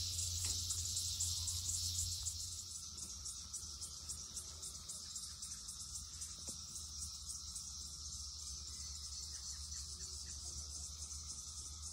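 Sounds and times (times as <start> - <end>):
cicadas chorus pulsing drone: 0.0 - 11.9.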